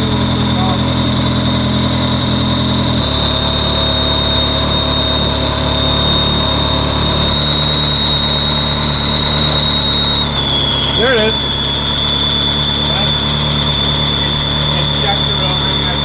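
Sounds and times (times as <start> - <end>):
car engine idling: 0.0 - 16.0
high-pitched vacuum leak whistle: 0.0 - 16.0.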